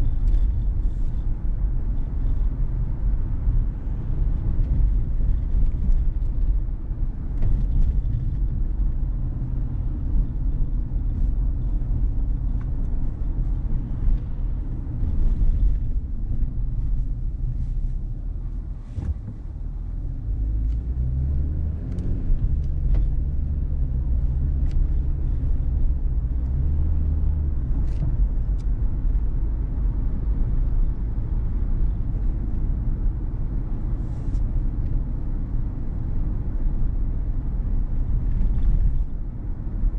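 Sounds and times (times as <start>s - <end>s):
car engine and tyres rumble: 0.0s - 39.9s.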